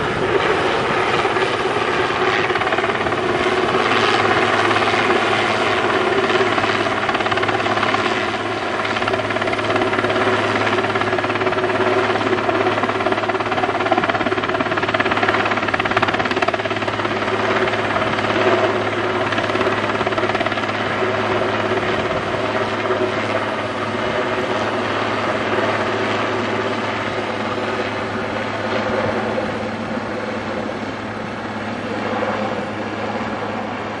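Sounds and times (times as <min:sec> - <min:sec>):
helicopter rotor and turbine roar: 0:00.0 - 0:34.0.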